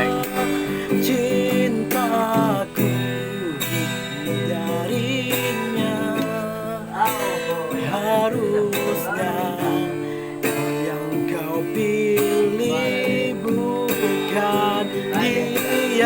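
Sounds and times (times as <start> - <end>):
person singing: 0.0 - 16.0
strummed acoustic guitar: 0.0 - 16.0.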